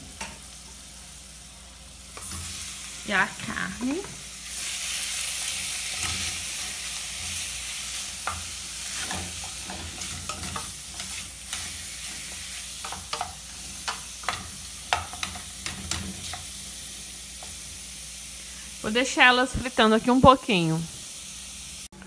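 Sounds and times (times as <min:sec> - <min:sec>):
meat sizzling in oil: 0:00.0 - 0:22.0.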